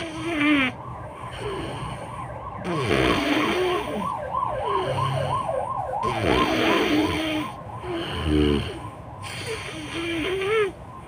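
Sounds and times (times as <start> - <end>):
siren yelping: 0.0 - 11.0.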